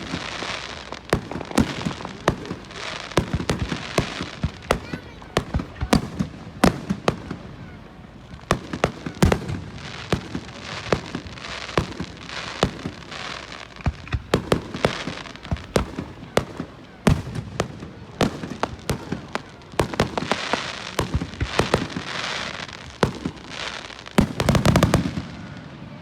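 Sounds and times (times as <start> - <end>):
fireworks booming: 0.0 - 26.0
fireworks hissing and crackling: 0.0 - 26.0.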